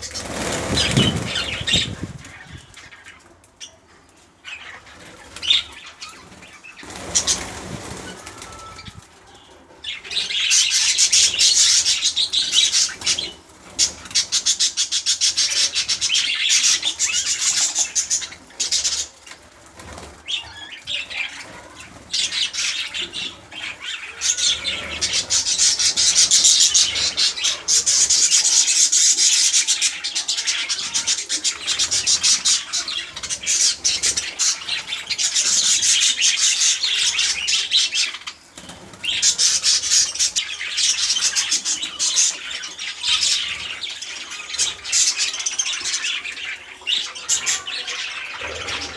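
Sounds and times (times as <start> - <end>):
budgerigars twittering: 0.0 - 3.8, 9.8 - 19.2, 20.0 - 38.4, 39.0 - 48.9
birds fluttering: 0.0 - 48.9.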